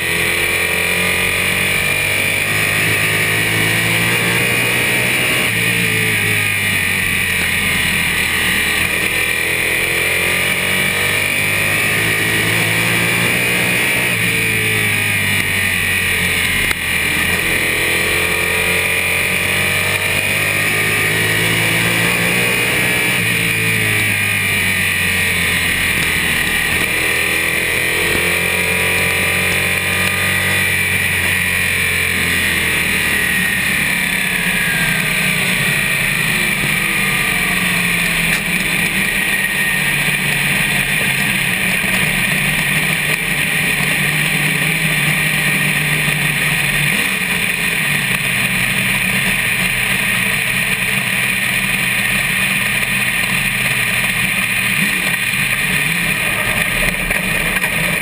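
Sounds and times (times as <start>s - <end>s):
race car engine: 0.0s - 58.0s
steady rushing noise: 0.0s - 58.0s.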